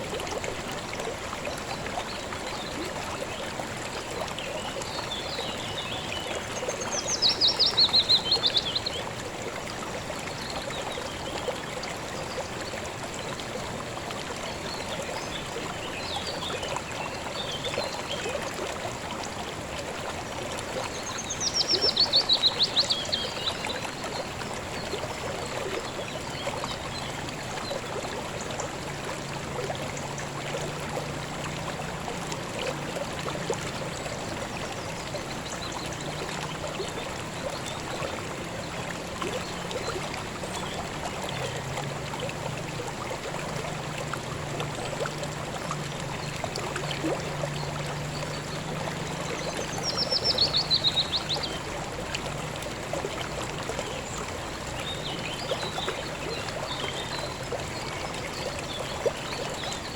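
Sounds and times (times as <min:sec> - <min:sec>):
river stream rushing and babbling: 0:00.0 - 0:59.9.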